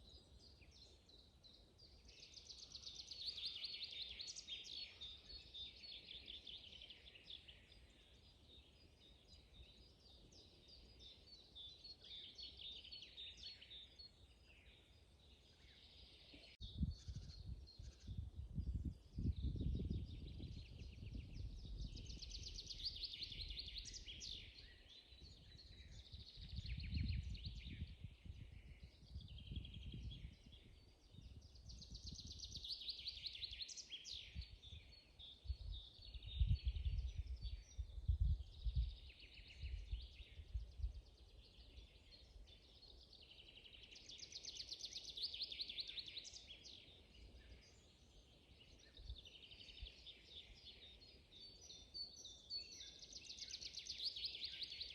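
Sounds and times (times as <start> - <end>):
songbirds trilling and chirping: 0.0 - 54.9.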